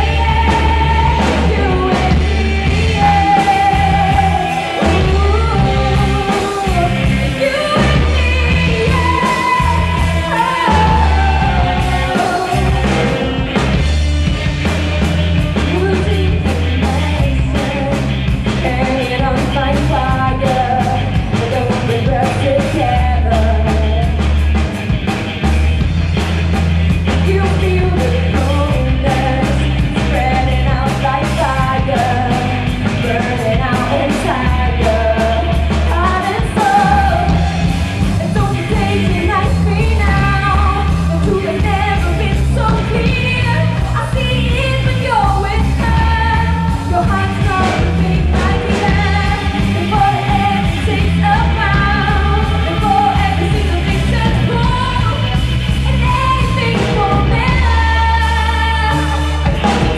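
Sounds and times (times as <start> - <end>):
person singing: 0.0 - 13.7, 15.4 - 24.3, 27.1 - 59.9
bass guitar: 0.0 - 59.9
drum kit steady beat: 0.0 - 59.9
electric guitars: 0.0 - 59.9.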